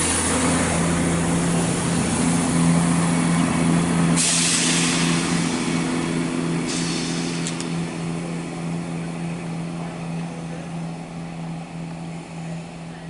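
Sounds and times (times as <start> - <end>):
diesel train engine drone: 0.0 - 13.0.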